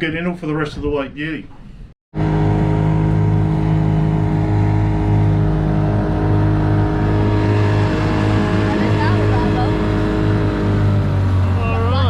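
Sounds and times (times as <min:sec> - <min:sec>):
engine running steadily: 0:02.2 - 0:12.0.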